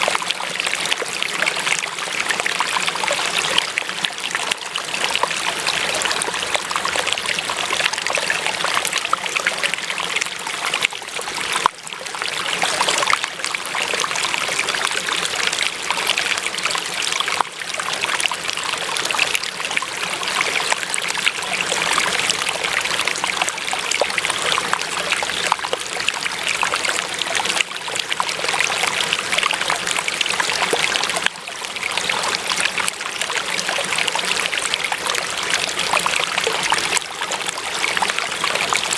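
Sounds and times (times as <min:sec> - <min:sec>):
stream trickling and splashing: 0:00.0 - 0:38.9.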